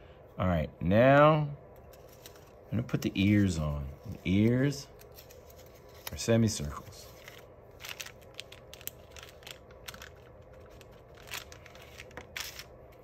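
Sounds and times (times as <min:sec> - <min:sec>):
paper rustling and crinkling: 0:02.0 - 0:13.0.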